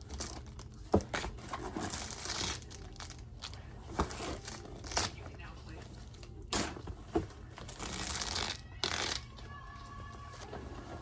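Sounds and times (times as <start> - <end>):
wrapping paper crinkling and tearing: 0.0 - 11.0.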